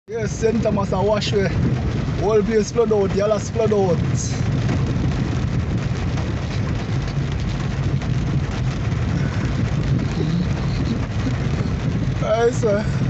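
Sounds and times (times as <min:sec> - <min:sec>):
car engine and road rumble: 0:00.0 - 0:13.0
rain hiss: 0:00.1 - 0:13.0.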